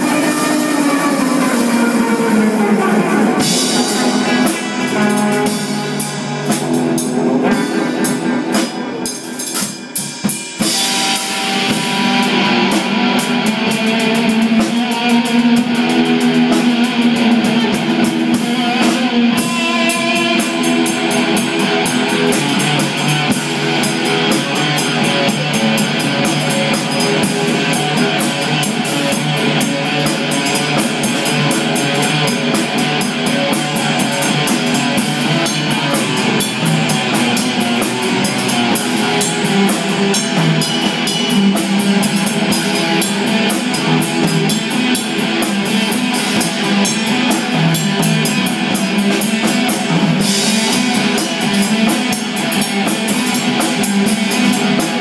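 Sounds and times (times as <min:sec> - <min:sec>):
amplified electric guitar: 0:00.0 - 0:55.0
busy cymbals: 0:00.0 - 0:55.0
drum kit beat: 0:00.0 - 0:55.0.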